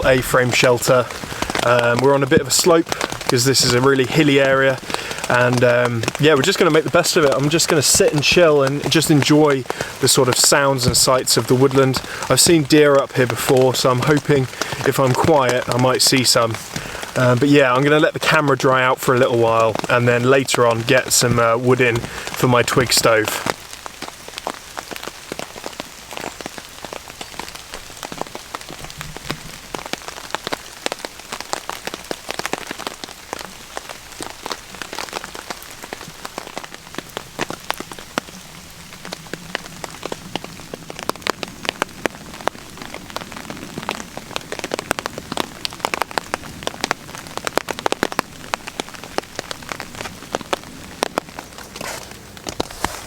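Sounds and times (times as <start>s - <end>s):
heavy rain on a tarp: 0.0s - 53.0s.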